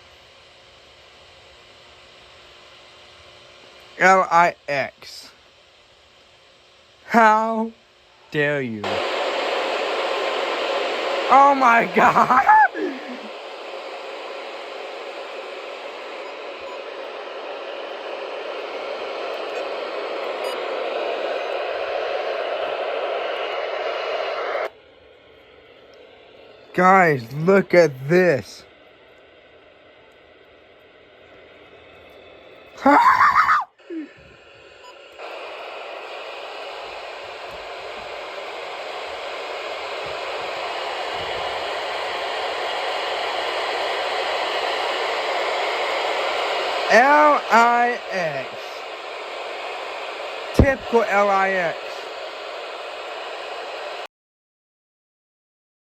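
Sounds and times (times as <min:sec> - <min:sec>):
radio static hiss: 0:00.0 - 0:54.1.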